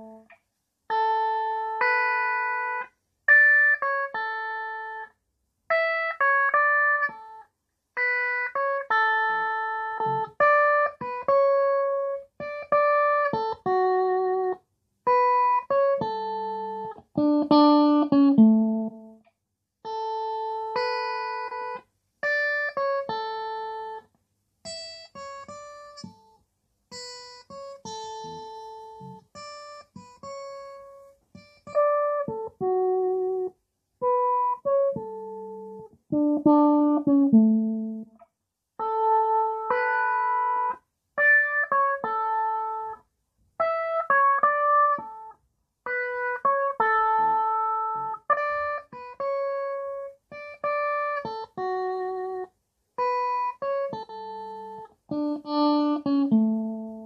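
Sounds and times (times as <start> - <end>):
electric guitar phrases: 0.0 - 57.0.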